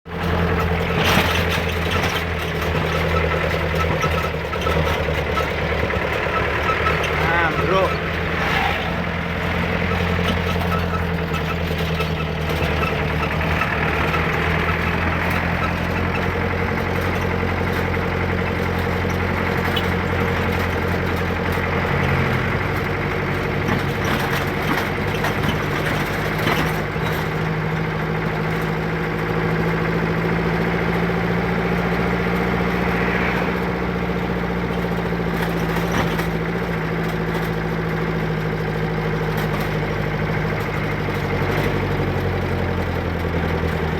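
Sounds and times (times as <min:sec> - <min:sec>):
vehicle engine idling: 0:00.1 - 0:43.9.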